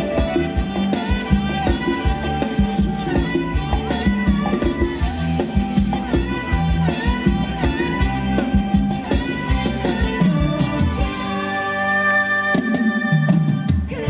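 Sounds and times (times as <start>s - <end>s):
live band playing dance music: 0.0s - 14.0s.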